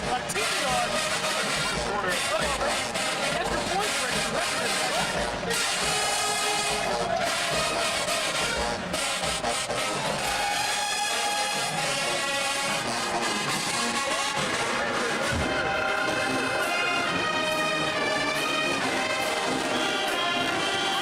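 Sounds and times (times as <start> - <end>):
brass band playing held chords: 0.0 - 21.0.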